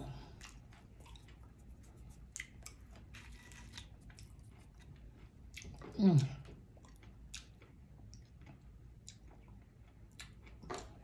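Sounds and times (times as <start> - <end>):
chewing fried food: 0.0 - 11.0.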